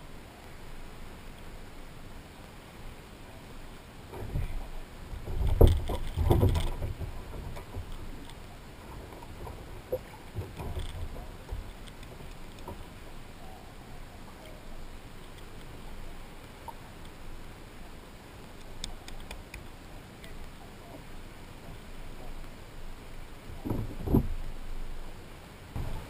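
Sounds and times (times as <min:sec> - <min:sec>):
low steady background: 0:00.0 - 0:26.0.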